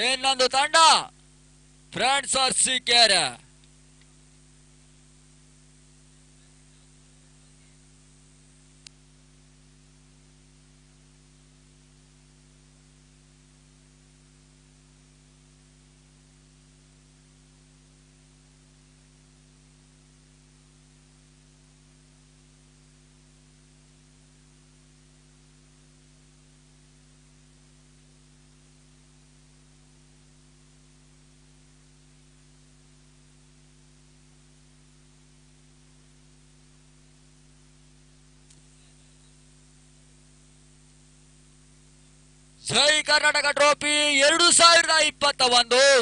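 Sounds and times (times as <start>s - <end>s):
faint hiss and electrical hum: 0.0s - 46.0s.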